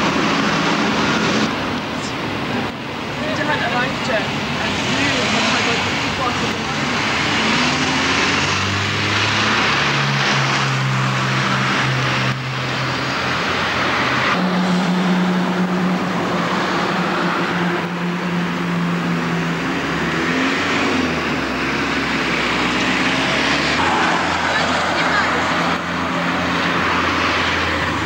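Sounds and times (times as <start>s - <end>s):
road noise: 0.0s - 28.0s
vehicle engine hum: 0.0s - 28.0s.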